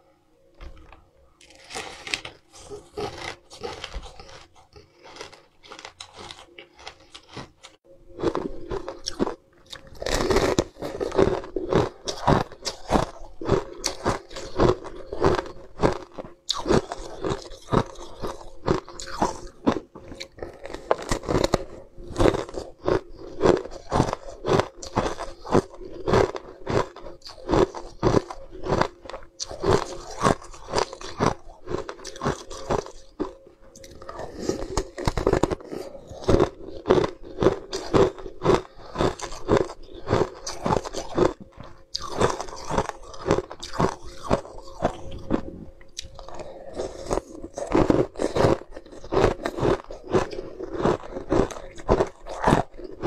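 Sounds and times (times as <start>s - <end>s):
ice crunching being chewed: 0.6s - 53.0s.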